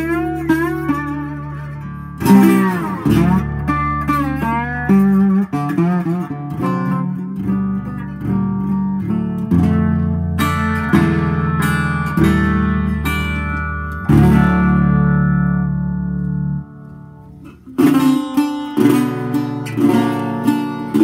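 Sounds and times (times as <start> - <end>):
bluesy slide resonator guitar: 0.0 - 21.0.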